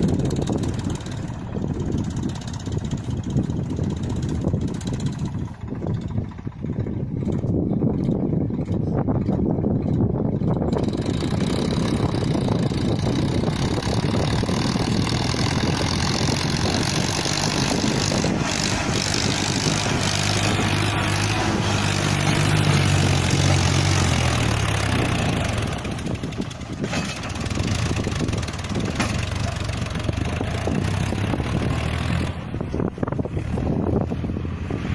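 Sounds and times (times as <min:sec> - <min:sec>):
tractor diesel engine running hard: 0:00.0 - 0:34.9.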